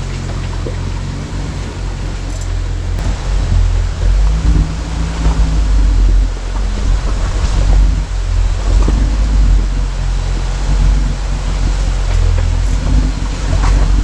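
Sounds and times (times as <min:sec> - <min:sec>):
car engine running low: 0:00.0 - 0:14.0
wind rumbling on microphone: 0:00.0 - 0:14.0.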